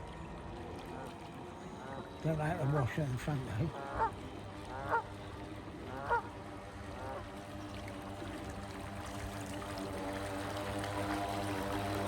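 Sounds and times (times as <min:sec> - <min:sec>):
model boat motors humming: 0:00.0 - 0:12.0.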